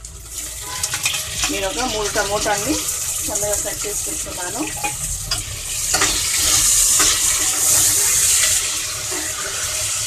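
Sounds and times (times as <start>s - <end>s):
onions and tomatoes sizzling in oil: 0.0s - 10.0s.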